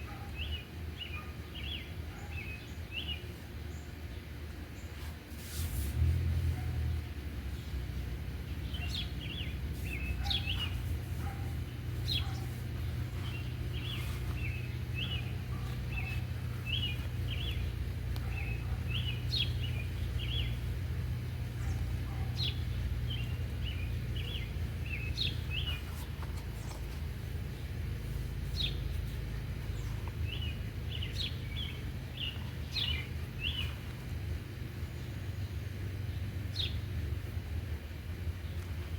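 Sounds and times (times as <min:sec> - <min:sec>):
small songbirds chirping: 0:00.0 - 0:05.2, 0:06.0 - 0:38.9
steady low rumble: 0:02.9 - 0:38.9.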